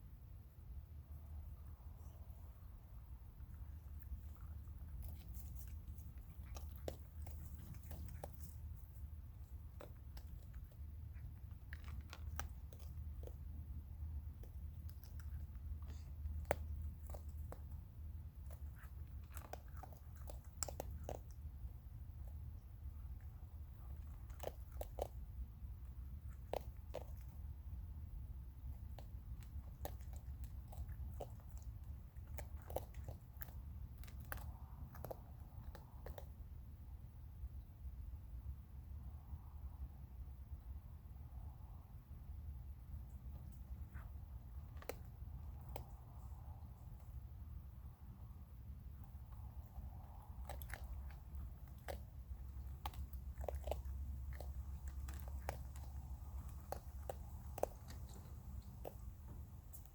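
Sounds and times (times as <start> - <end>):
steady low hum: 0.0 - 59.9
raccoons crunching hard food: 2.0 - 36.7, 42.7 - 59.9.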